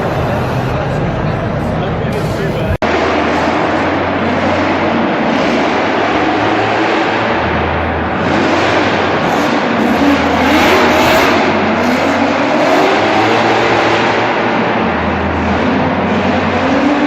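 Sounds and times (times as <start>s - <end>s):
car engine revving hard: 2.8s - 17.0s.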